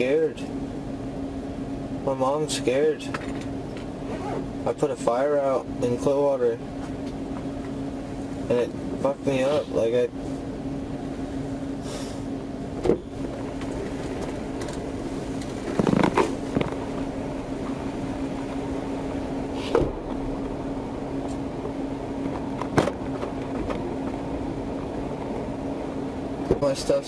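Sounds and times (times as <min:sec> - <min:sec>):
vehicle cabin hum: 0:00.0 - 0:27.0.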